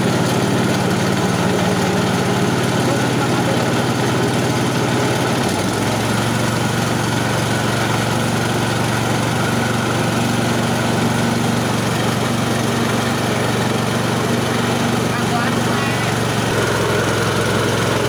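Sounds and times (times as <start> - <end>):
rice milling machine humming: 0.0 - 18.0.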